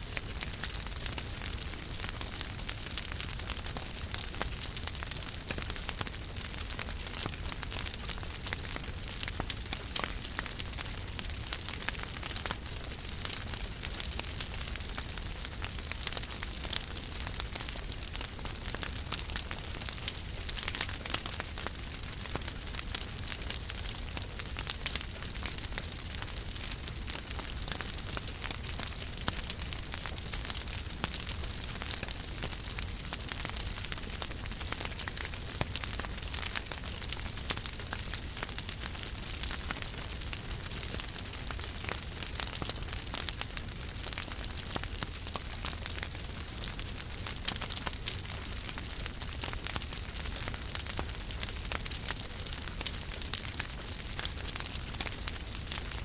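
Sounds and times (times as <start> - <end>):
fire popping: 0.0 - 55.9
wood fire crackling: 0.0 - 56.0.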